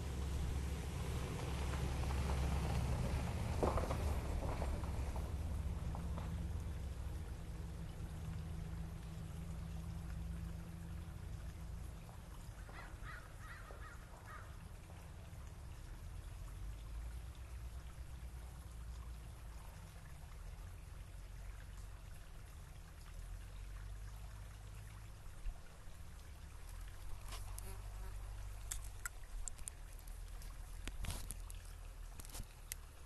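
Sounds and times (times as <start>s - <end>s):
stream trickling: 0.0s - 33.0s.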